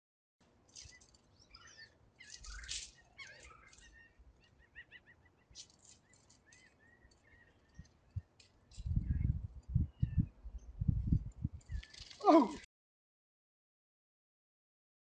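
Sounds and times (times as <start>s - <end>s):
faint birds chirping: 0.5s - 12.6s.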